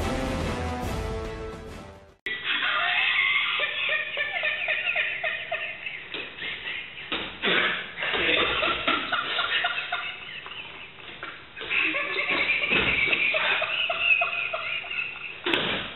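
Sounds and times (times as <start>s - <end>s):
people snickering and laughing: 2.3s - 15.9s.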